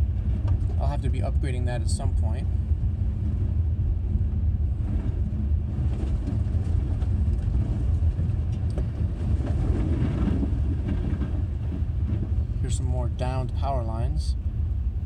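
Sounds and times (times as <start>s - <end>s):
car engine rumble inside cabin: 0.0s - 15.0s
road noise: 0.0s - 15.0s.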